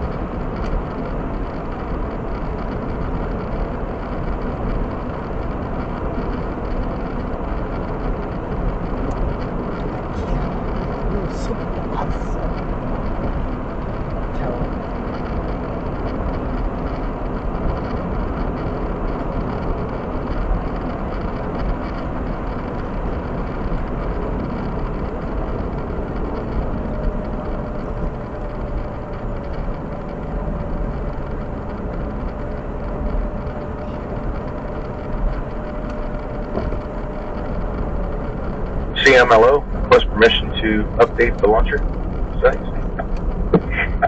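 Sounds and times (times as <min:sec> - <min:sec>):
heavy low hum: 0:00.0 - 0:44.0.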